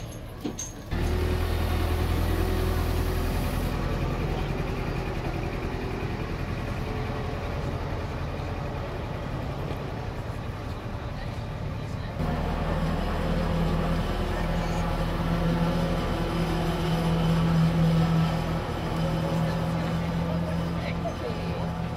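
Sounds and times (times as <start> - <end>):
vehicle engine humming: 0.0 - 21.9.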